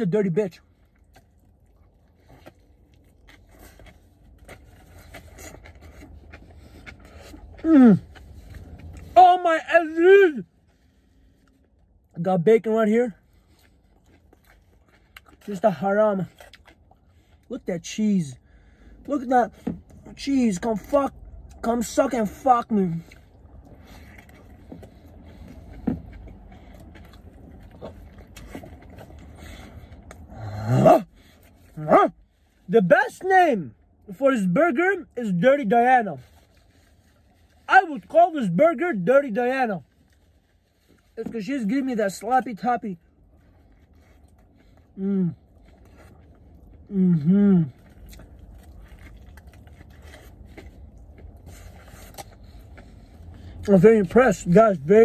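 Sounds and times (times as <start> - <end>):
faint chewing: 0.0 - 9.2, 10.2 - 32.7, 36.0 - 55.0.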